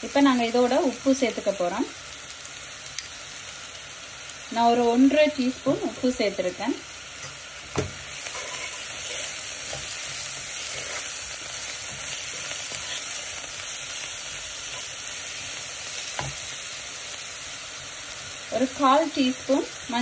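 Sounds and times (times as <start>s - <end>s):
spring onions sizzling in oil: 0.0s - 20.0s.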